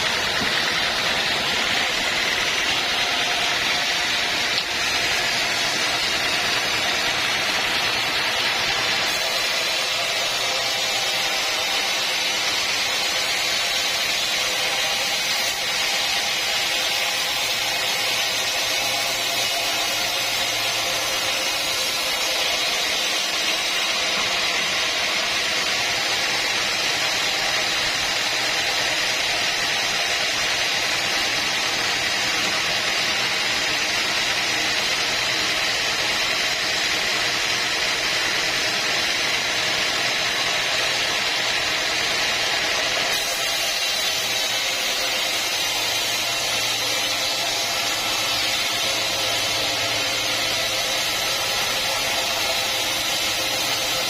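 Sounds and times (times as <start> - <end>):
sawmill machinery drone: 0.0 - 54.0.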